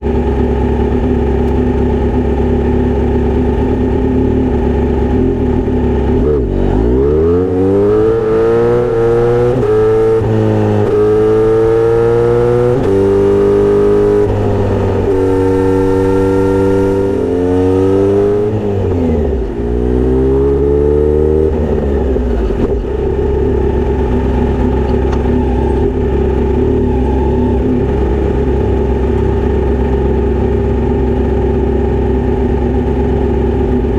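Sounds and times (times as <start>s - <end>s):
motorcycle engine idling and accelerating: 0.0s - 33.9s.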